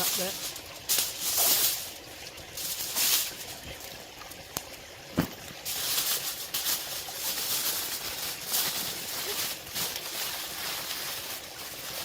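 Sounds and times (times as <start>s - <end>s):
aluminium foil crinkling: 0.0s - 3.9s, 5.6s - 12.0s.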